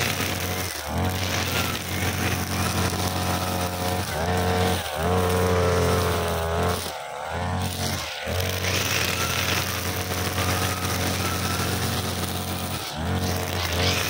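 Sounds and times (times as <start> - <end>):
brushcutter engine revving: 0.0 - 14.0
nylon line cutting grass: 0.0 - 14.0.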